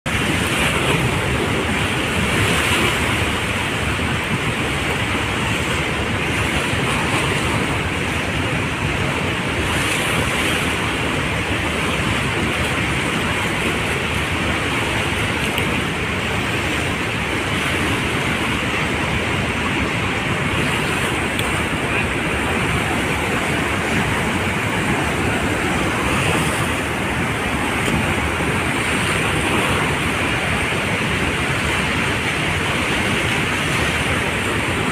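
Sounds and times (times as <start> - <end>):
churning river water: 0.0 - 34.9
wind buffeting microphone: 0.1 - 34.9.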